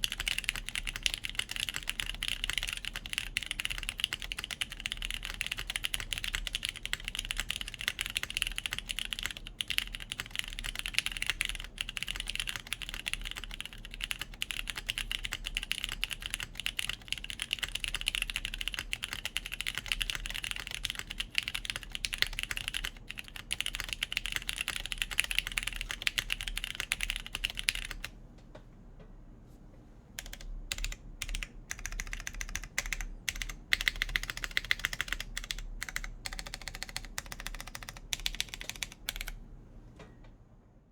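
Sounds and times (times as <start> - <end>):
mechanical keyboard typing: 0.0 - 28.1, 30.2 - 39.4.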